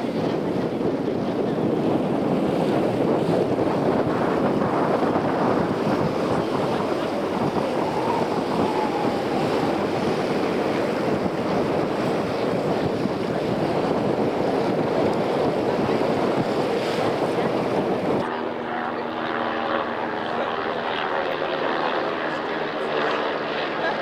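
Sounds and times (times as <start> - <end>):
water noise from moving boat: 0.0 - 24.0
wind buffeting microphone: 0.0 - 24.0.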